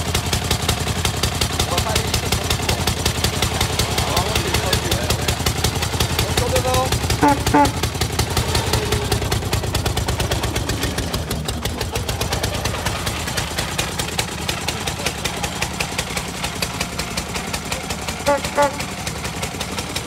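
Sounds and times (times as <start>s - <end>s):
old car engine chugging: 0.0s - 20.0s.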